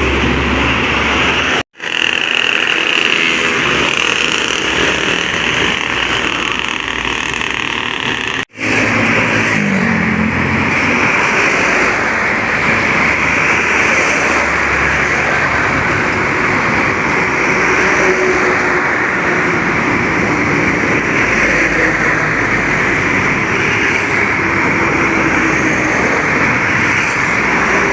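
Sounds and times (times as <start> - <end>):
engine rising in pitch: 0.0 - 27.9
heavy truck engines: 0.0 - 27.9.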